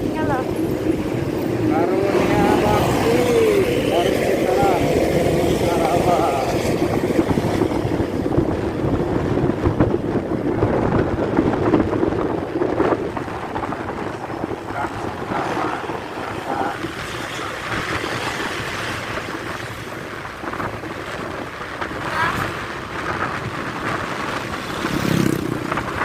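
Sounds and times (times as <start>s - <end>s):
train wheels rumbling on rails: 0.0s - 26.0s
wind buffeting microphone: 0.0s - 26.0s.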